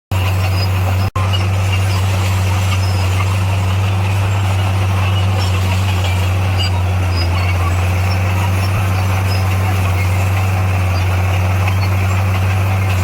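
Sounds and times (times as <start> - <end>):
bulldozer diesel engine droning: 0.1 - 13.0.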